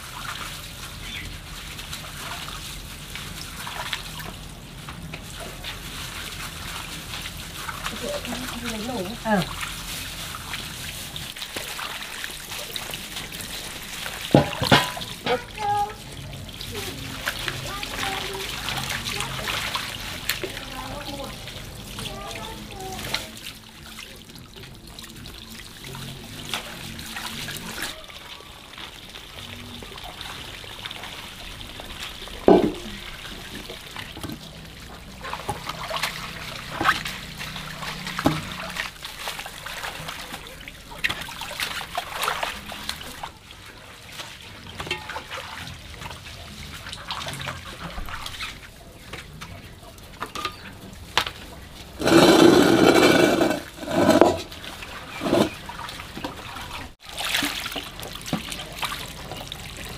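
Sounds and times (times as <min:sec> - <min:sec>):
water pouring into a pot: 0:00.0 - 0:48.6, 0:50.0 - 0:59.9
faint water trickle: 0:00.0 - 0:59.9.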